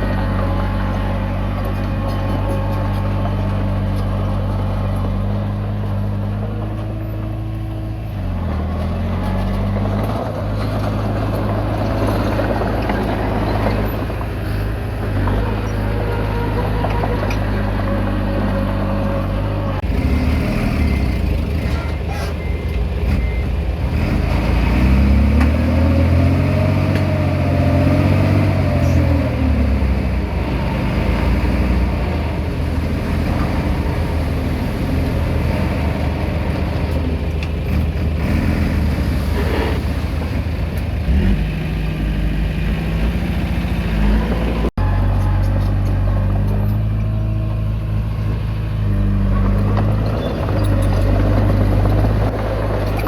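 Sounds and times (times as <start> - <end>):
bulldozer diesel engine: 0.0 - 53.0
bulldozer pushing soil: 0.0 - 53.0.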